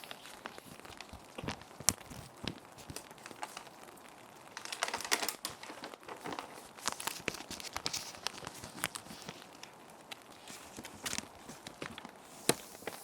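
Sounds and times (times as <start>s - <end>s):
plastic sheets crinkling: 0.0s - 13.0s
soft steady rain: 0.0s - 13.0s.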